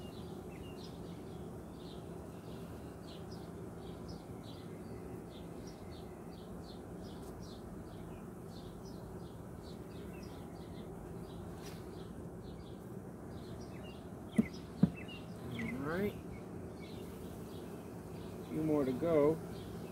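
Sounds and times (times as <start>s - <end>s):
honey bees humming: 0.0s - 19.9s
small bird chirping: 0.0s - 19.9s.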